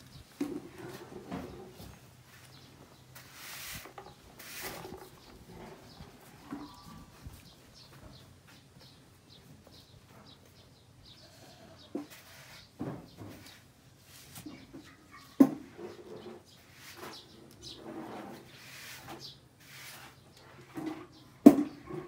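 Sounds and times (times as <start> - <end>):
faint farmyard ambience: 0.0 - 22.0.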